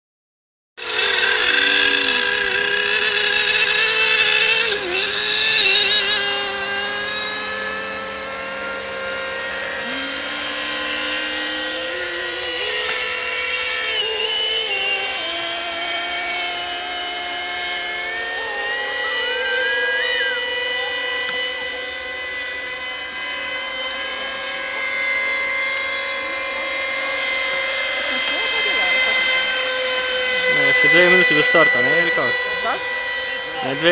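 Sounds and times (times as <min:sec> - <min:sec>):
model boat motors whining: 0:00.8 - 0:33.9.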